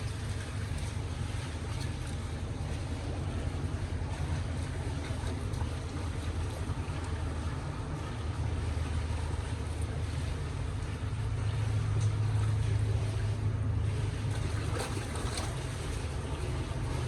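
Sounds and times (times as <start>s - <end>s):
low rumbling with hiss: 0.0s - 17.0s.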